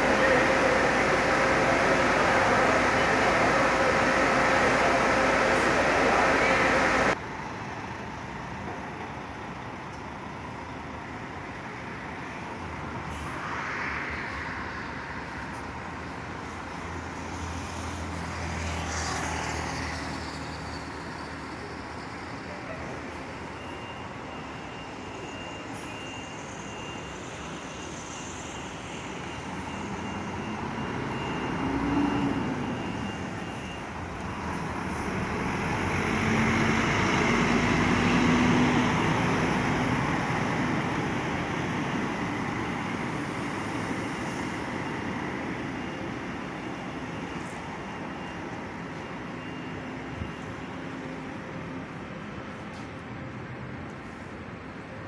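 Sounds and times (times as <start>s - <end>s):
coach diesel engines passing: 0.0s - 55.0s
road traffic noise: 0.0s - 55.0s.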